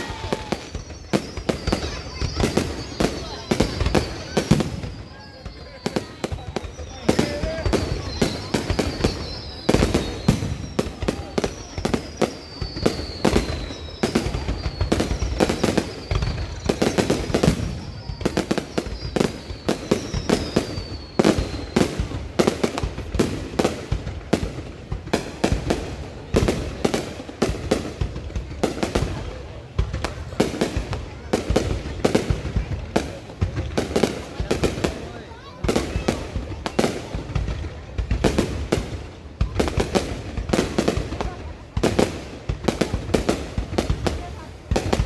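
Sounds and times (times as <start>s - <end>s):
falling firework whistles: 0.0s - 45.0s
fireworks bangs and pops: 0.0s - 45.0s.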